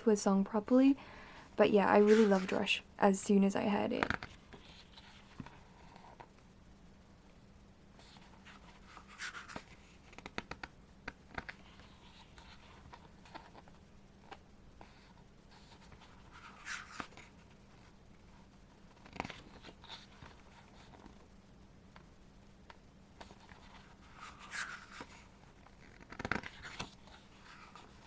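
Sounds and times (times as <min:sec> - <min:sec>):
soft paper rustle: 0:01.8 - 0:02.8, 0:03.9 - 0:06.4, 0:08.0 - 0:21.3, 0:21.9 - 0:28.0.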